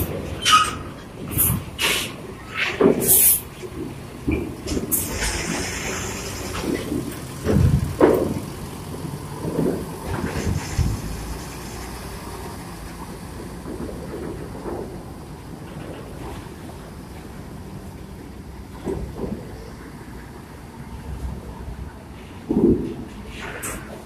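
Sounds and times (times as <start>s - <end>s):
large vehicle engines rumbling: 0.0s - 24.0s.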